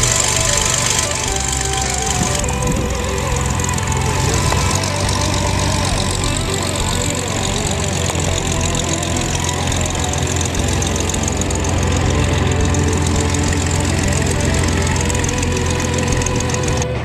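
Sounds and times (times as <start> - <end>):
propeller plane engine taxiing: 0.0 - 17.0.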